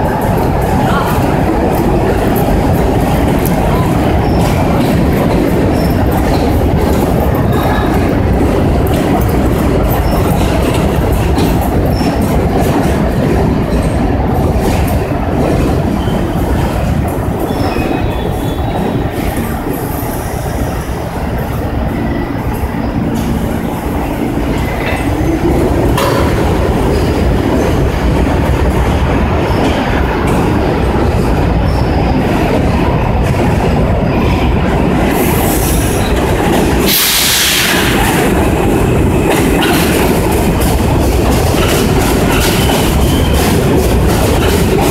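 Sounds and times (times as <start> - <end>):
clickety-clack over rail joints: 0.0 - 44.9
train pulling in: 0.0 - 44.9
train wheels rumbling on rails: 0.0 - 44.9.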